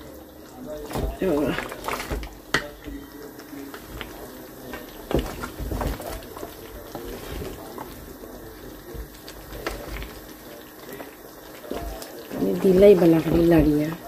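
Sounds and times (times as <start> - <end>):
sauce bubbling: 0.0 - 14.0.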